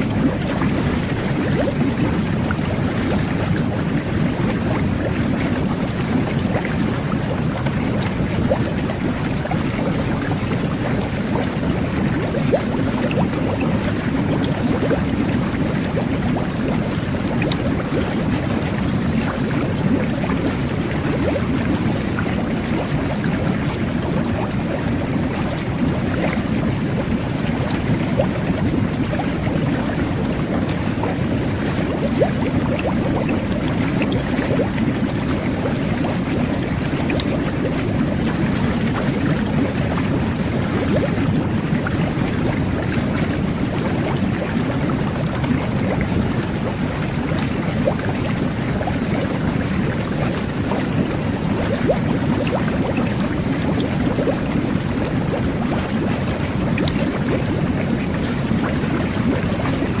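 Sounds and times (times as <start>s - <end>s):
whirlpool tub jets bubbling: 0.0s - 60.0s.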